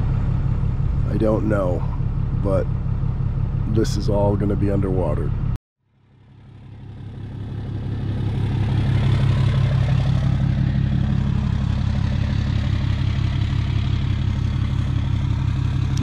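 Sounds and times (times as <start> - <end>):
vehicle engine humming at low speed: 0.0 - 16.0.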